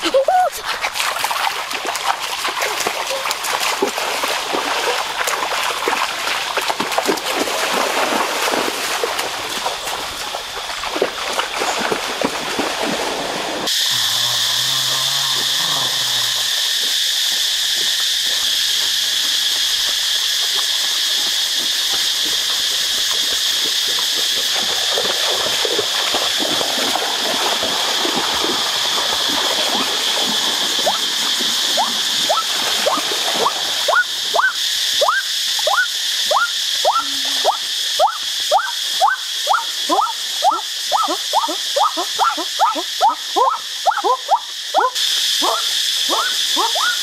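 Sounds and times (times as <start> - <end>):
stream water splashing: 0.0 - 47.0.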